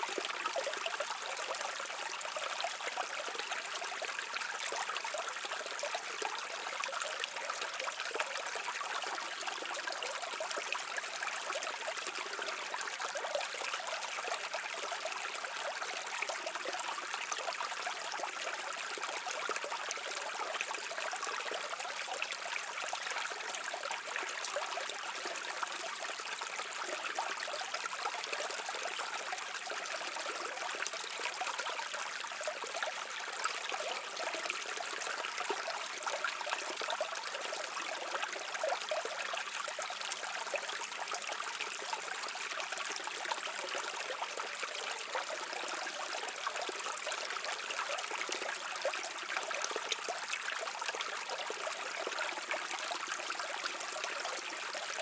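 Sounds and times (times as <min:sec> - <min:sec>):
brook water trickling over rocks: 0:00.0 - 0:55.0.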